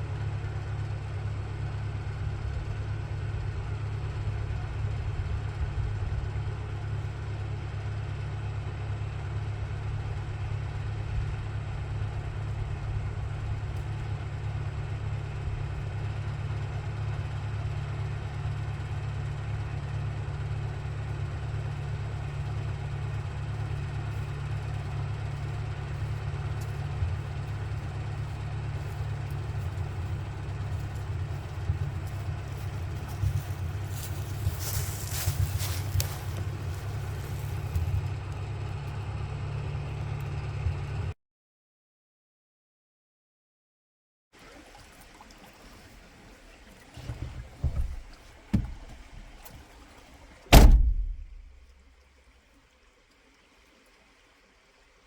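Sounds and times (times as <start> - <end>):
tractor engine running: 0.0 - 41.1, 44.4 - 52.1.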